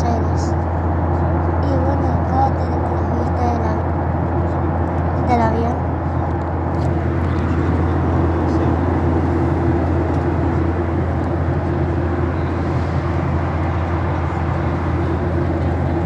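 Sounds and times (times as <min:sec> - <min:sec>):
jet engine drone in cabin: 0:00.0 - 0:16.0.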